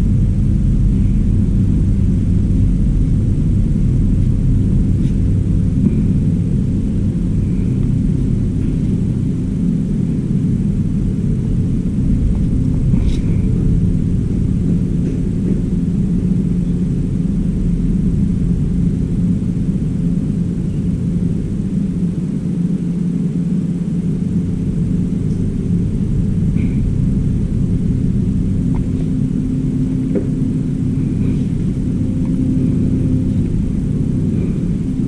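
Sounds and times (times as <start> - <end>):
faint hum: 0.0 - 35.0
low mechanical rumble: 0.0 - 35.0.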